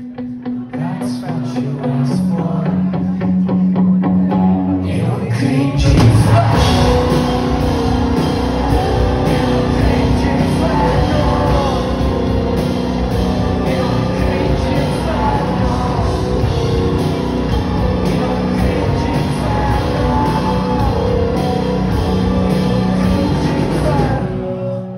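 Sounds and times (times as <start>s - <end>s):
drums: 0.0s - 24.9s
live rock band playing: 0.0s - 24.9s
man singing: 0.0s - 24.9s.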